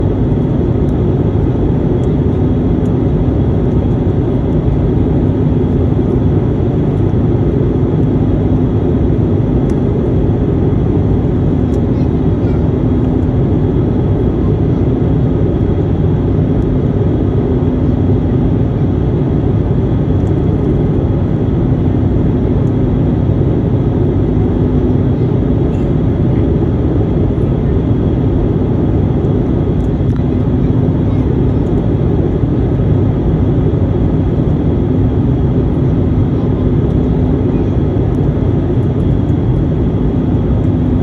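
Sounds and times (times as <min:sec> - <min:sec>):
airliner engines and airflow rumble: 0:00.0 - 0:41.0
constant low hum: 0:00.0 - 0:41.0.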